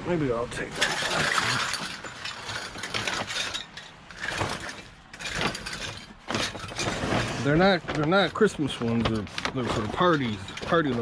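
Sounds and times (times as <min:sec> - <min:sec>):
rummaging in a dumpster: 0:00.6 - 0:11.0.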